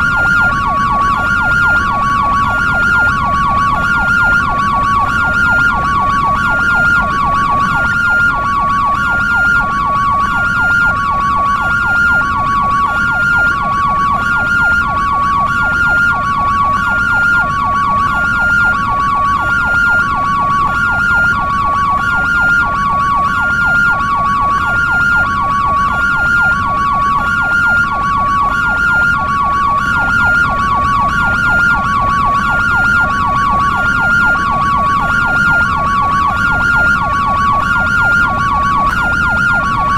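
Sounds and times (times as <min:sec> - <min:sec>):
ambulance two-tone siren: 0:00.0 - 0:39.9.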